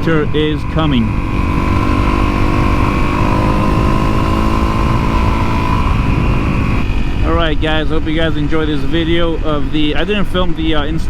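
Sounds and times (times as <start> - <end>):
motorcycle engine running: 0.0 - 11.0
road rumble: 0.0 - 11.0
wind: 0.0 - 11.0.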